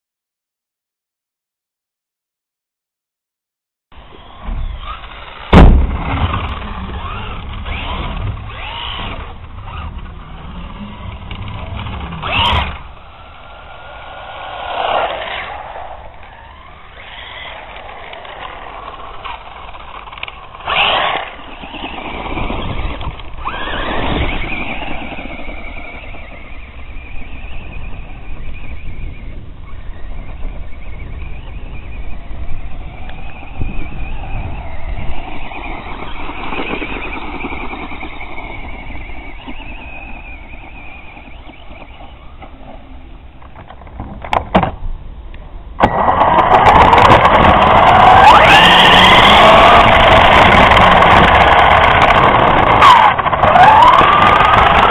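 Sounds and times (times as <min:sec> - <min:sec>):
electric motor whining: 0:04.0 - 0:43.1, 0:45.8 - 0:54.9
constant rumble: 0:04.0 - 0:54.9.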